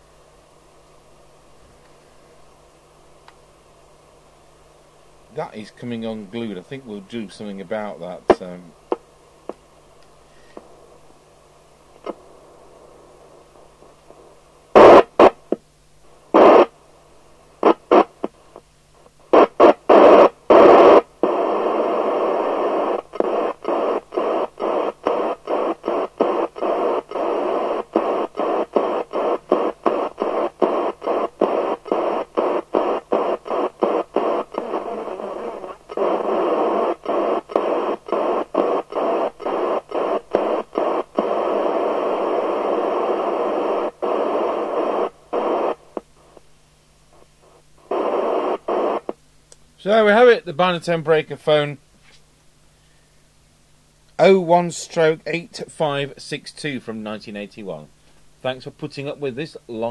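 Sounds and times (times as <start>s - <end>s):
radio receiver hiss: 0.0s - 59.9s.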